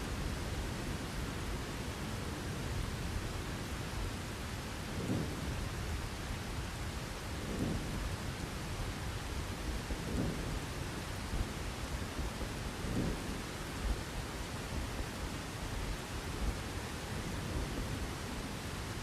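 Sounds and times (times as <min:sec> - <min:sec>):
heavy rain: 0:00.0 - 0:19.0
low thunder rumbling: 0:00.1 - 0:15.4.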